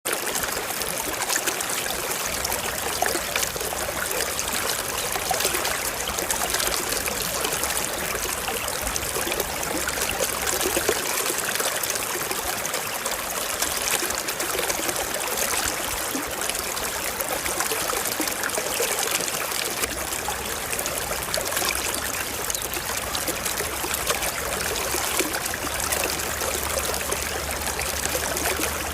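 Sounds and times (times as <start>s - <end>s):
river water flowing over stones: 0.1s - 28.9s.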